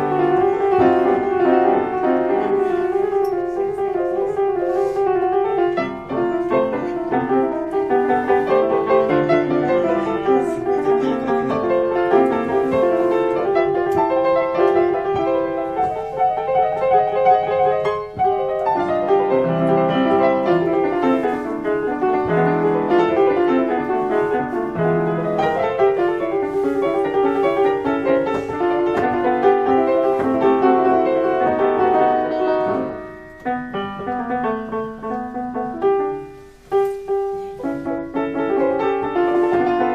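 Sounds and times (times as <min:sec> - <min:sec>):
upright piano playing: 0:00.0 - 0:39.9.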